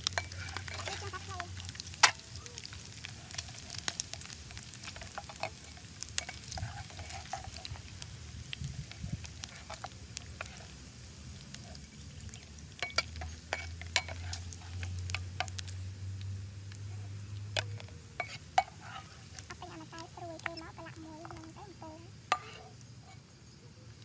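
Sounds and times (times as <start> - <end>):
meat sizzling in oil: 0.0 - 24.0.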